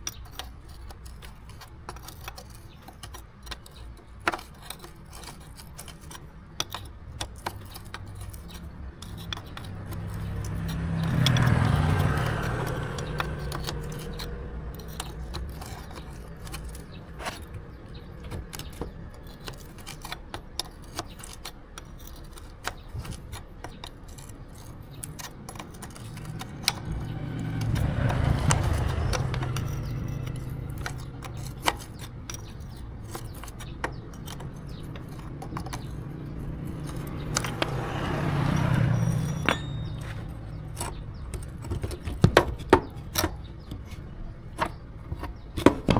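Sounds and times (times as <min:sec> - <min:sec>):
metal tools clinking and scraping: 0:00.0 - 0:45.9.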